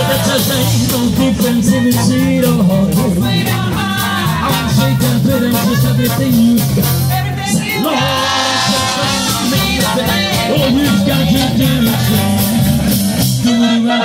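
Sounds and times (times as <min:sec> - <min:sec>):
drums keeping a beat: 0:00.0 - 0:14.0
voices singing together: 0:00.0 - 0:14.0.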